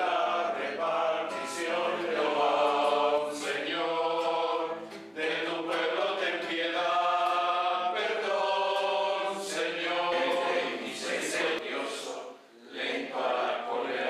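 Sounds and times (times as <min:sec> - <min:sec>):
congregation singing a hymn: 0:00.0 - 0:14.0.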